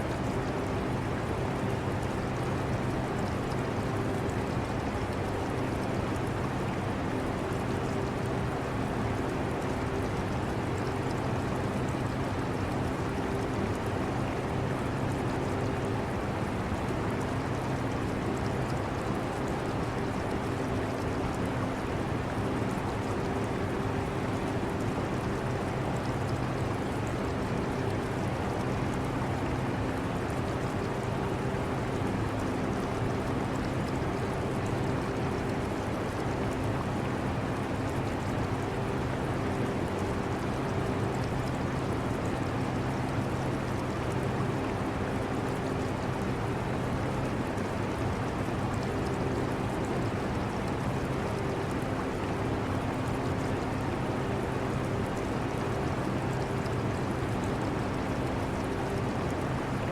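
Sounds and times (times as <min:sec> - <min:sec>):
aquarium water trickling: 0:00.0 - 0:59.9.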